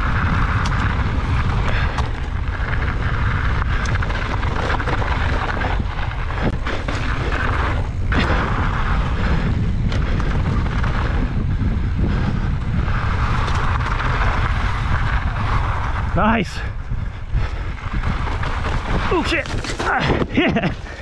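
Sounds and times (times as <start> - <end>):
bike knocks and rattles: 0.0 - 16.3, 17.5 - 21.0
bike tyre noise: 0.0 - 21.0
wind rumble on microphone: 0.0 - 21.0.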